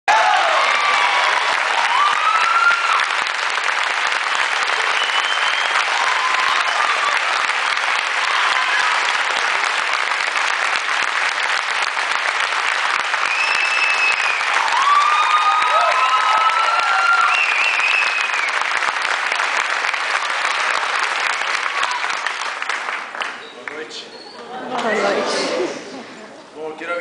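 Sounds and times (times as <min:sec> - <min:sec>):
audience applauding: 0:00.1 - 0:26.0.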